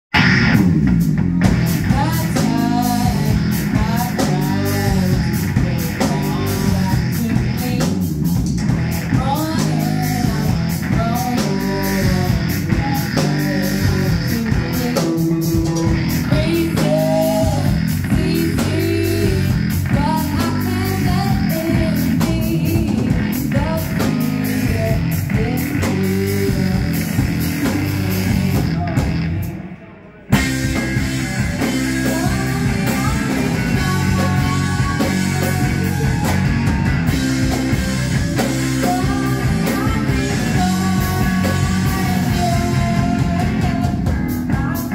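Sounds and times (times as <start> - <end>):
bass guitar: 0.0 - 44.9
drum kit: 0.1 - 44.9
electric guitar: 0.1 - 44.9
person singing: 1.7 - 8.1, 9.0 - 29.1, 29.8 - 44.9.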